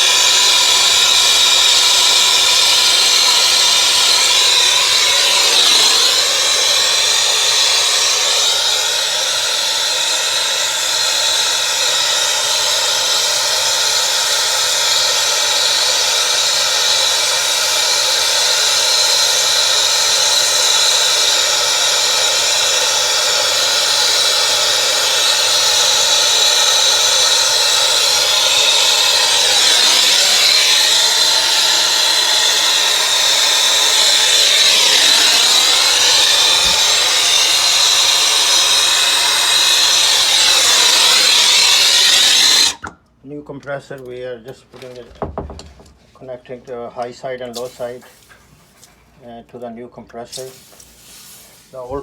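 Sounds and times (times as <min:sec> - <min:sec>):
torch flame hissing: 0:00.0 - 0:42.9, 0:47.6 - 0:48.8, 0:50.3 - 0:52.0.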